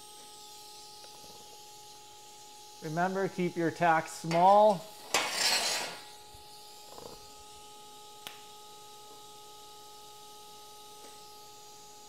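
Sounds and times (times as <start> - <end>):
welder electrical hum: 0.0 - 12.0.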